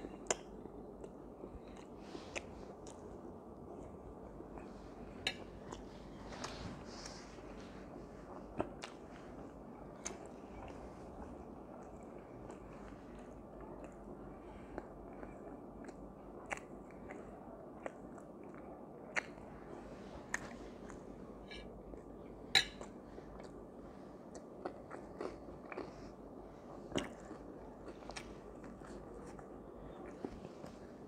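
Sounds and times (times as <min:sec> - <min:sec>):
man chewing food: 0:00.0 - 0:31.0.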